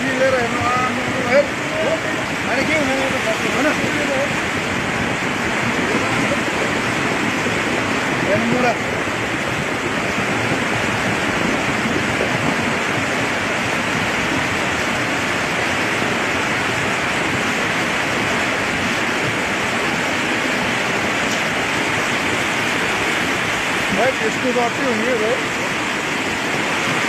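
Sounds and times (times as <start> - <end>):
floodwater rushing: 0.0 - 27.0.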